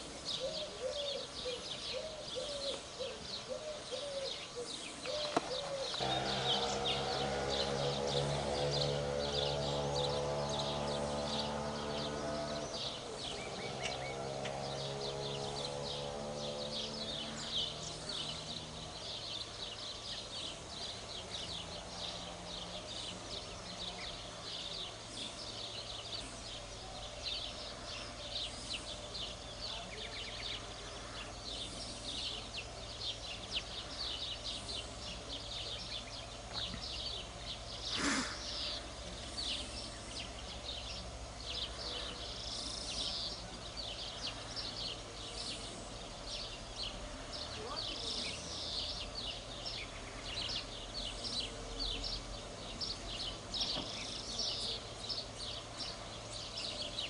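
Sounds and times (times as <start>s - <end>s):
small birds chirping: 0.0s - 57.0s
steady low hum: 0.0s - 57.0s.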